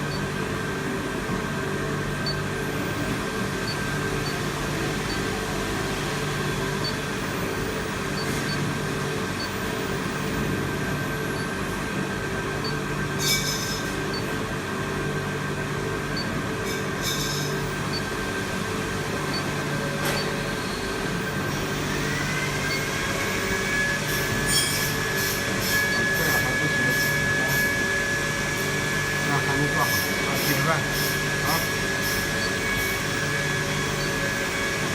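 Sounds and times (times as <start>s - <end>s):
constant high whine: 0.0s - 34.9s
steady machine hum: 0.0s - 34.9s.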